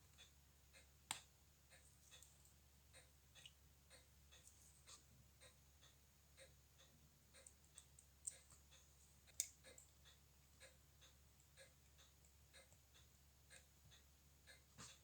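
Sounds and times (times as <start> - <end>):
mechanical watch ticking: 0.1 - 14.7.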